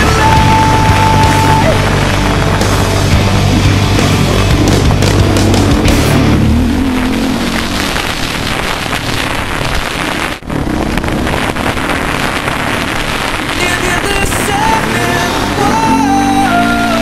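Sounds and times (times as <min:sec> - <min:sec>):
dirt bike engine running hard: 0:00.0 - 0:17.0
wind rush on microphone: 0:00.0 - 0:17.0.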